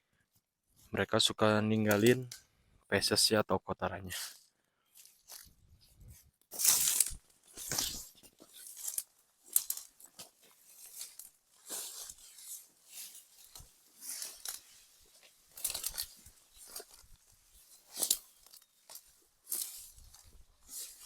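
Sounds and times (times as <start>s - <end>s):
dry leaves and twigs crunching: 1.9s - 2.4s, 4.1s - 21.0s.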